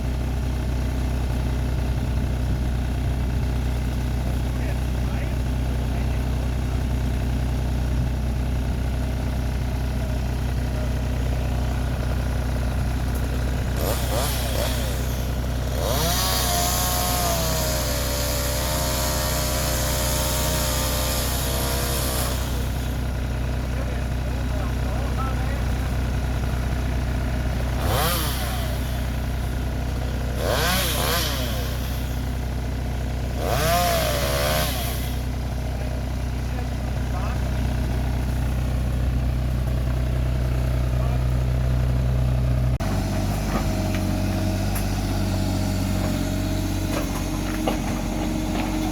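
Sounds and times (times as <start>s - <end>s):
heavy vehicle engine idling: 0.0s - 48.9s.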